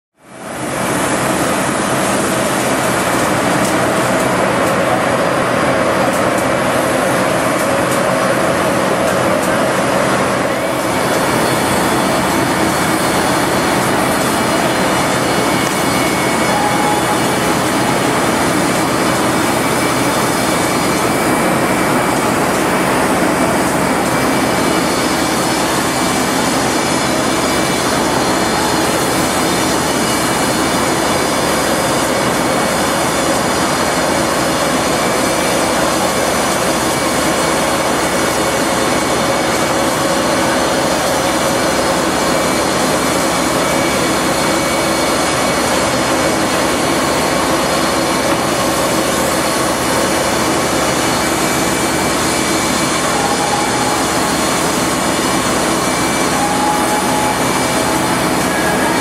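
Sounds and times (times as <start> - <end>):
spray rig drone and hiss: 0.3 - 59.0.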